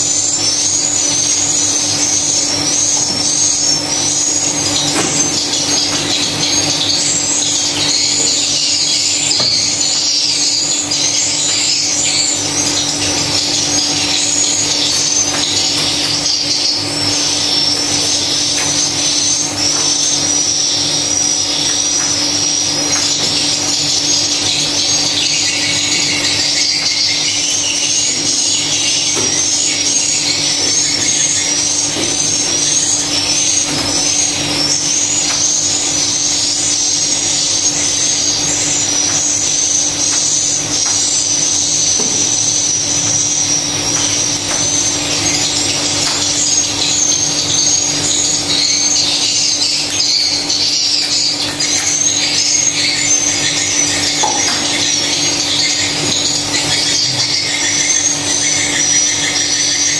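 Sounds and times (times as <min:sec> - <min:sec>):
swiftlets twittering: 0:00.0 - 0:59.9.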